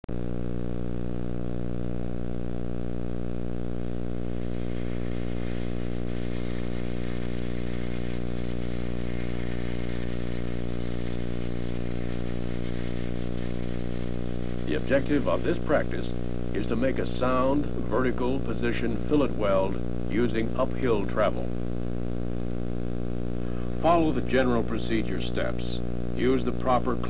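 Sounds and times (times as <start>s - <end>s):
electrical hum: 0.1s - 27.0s.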